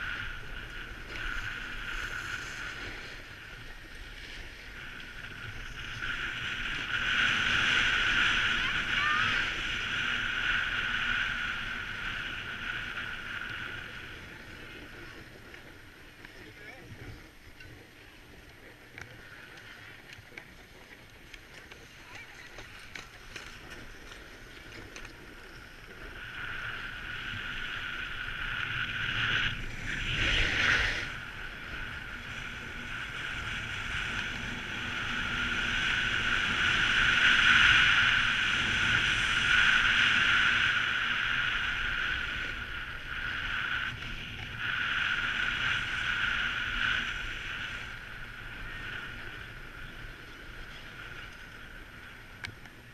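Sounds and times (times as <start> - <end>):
snowboard scraping on snow: 0.0 - 16.2, 21.4 - 51.7.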